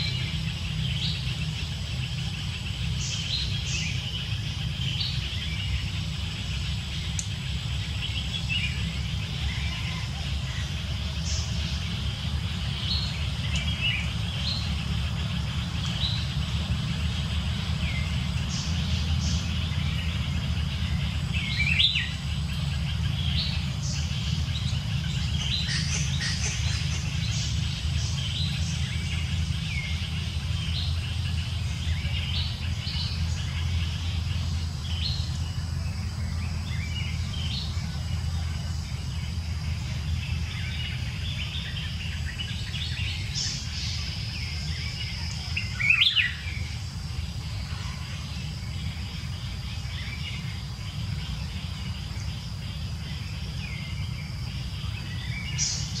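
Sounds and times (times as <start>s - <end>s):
birds chirping: 0.0s - 56.0s
steady low rumble: 0.0s - 56.0s.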